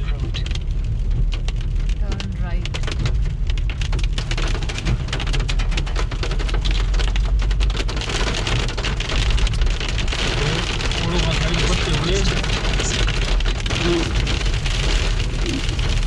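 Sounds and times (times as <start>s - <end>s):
engine and road rumble: 0.0s - 16.0s
hail pattering on car: 0.0s - 16.0s.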